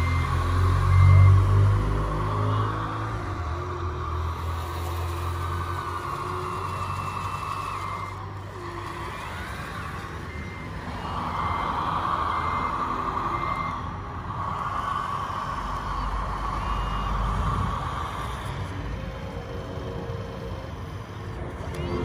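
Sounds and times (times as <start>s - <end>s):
reversing alarm beeping: 0.0s - 22.0s
toy truck running noise: 0.0s - 22.0s.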